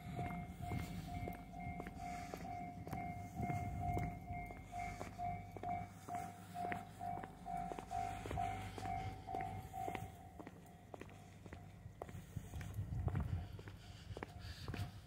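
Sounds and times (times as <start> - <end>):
level crossing alarm ringing: 0.0 - 12.1
footsteps on pavement: 0.0 - 15.0.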